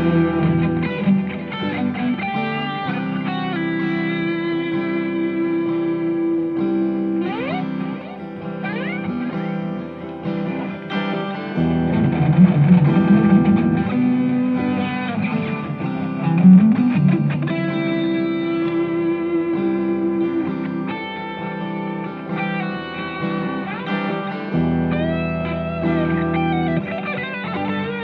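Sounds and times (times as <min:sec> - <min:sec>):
electric guitar chords and lead: 0:00.0 - 0:28.0.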